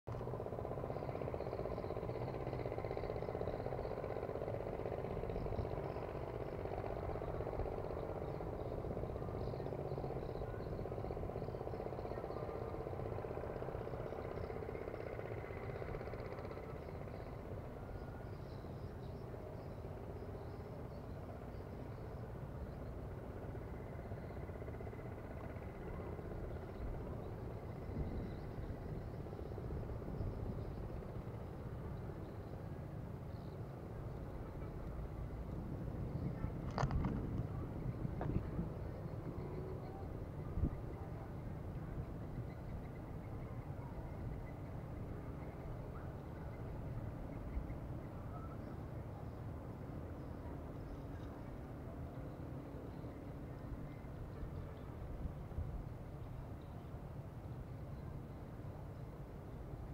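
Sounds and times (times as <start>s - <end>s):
two-stroke engine idling: 0.1s - 59.9s.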